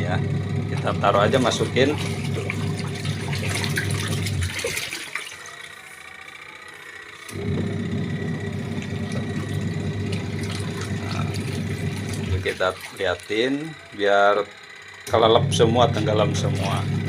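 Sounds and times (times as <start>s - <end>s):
water churning in tub: 0.0s - 6.6s, 7.2s - 17.0s
washing machine motor humming: 0.0s - 17.0s.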